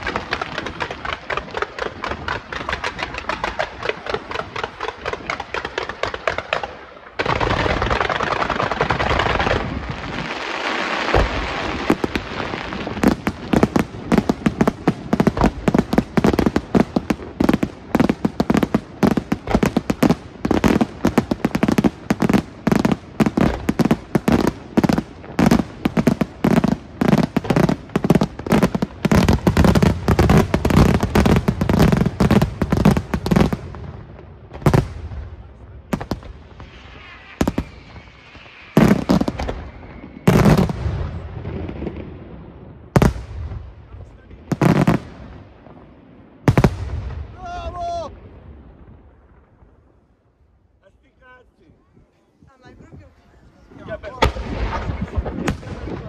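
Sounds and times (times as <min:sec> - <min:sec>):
fireworks sharp bangs: 0:00.0 - 0:50.2, 0:52.4 - 0:56.0
fireworks crackling: 0:00.0 - 0:56.0.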